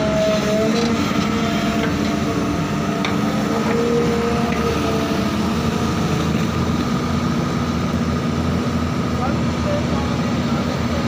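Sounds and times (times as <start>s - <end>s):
excavator diesel engine running: 0.0s - 11.0s
hydraulic whine: 0.0s - 11.0s.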